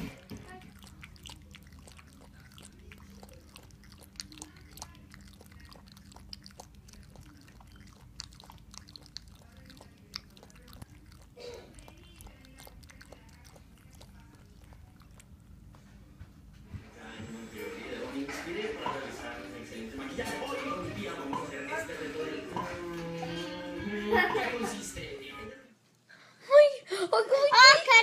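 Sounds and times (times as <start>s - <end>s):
puppy lapping water: 0.0s - 15.8s, 17.2s - 24.8s
low steady hum: 0.0s - 27.1s.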